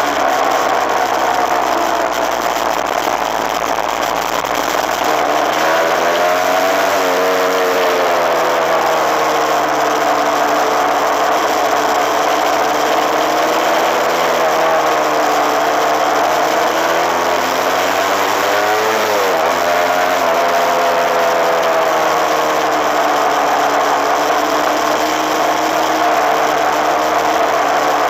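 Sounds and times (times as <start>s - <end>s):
two-stroke motorcycle engine: 0.0s - 28.0s.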